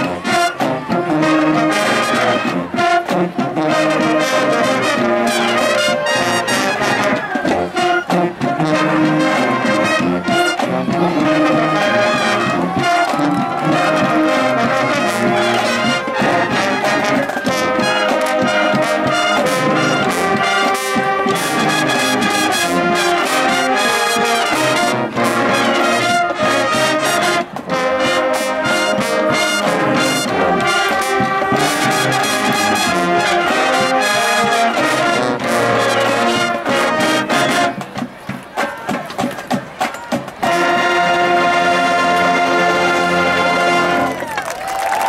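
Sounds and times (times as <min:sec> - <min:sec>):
marching band brass playing: 0:00.0 - 0:45.0.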